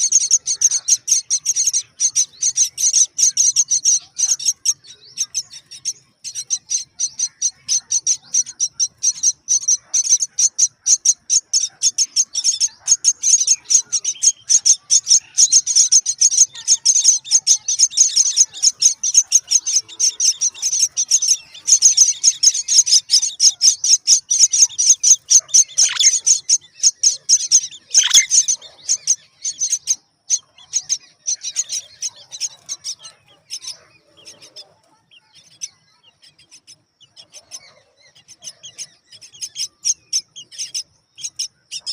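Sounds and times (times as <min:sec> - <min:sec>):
nestlings begging with shrill chirps: 0:00.0 - 0:41.9
sharp falling bird calls: 0:00.0 - 0:41.9.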